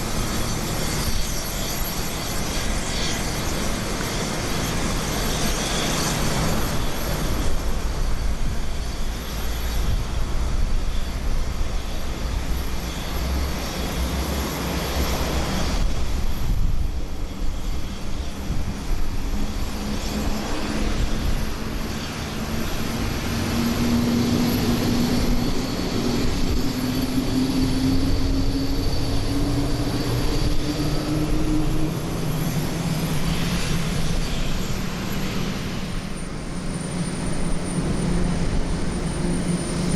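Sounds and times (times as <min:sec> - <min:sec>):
airliner jet engines roaring: 0:00.0 - 0:39.9.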